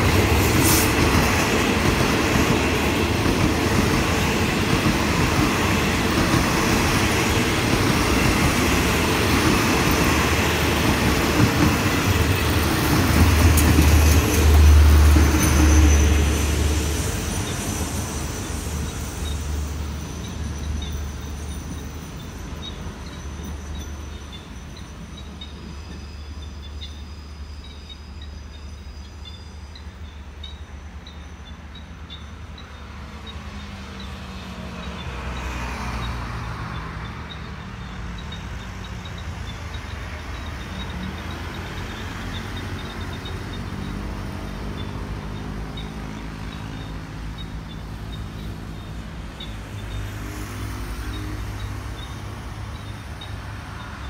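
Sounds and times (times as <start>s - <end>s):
road vehicles passing: 0.0s - 27.6s, 29.6s - 54.0s
diesel train rumbling: 0.0s - 54.0s.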